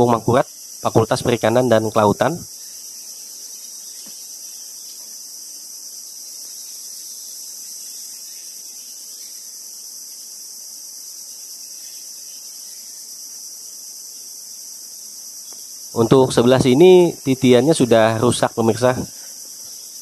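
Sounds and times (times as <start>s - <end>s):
shrill insect chorus: 0.0s - 20.0s.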